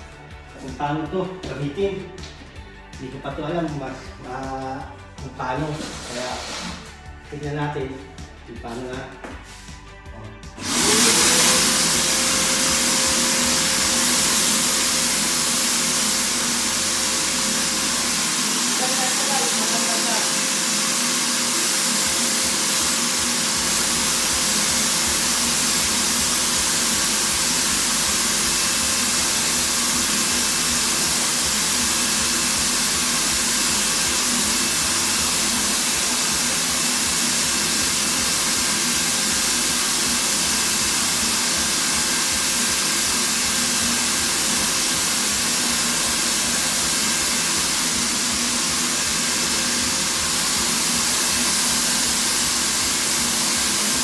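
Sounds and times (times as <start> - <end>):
paint sprayer blower hissing: 5.4 - 7.1, 10.6 - 54.0.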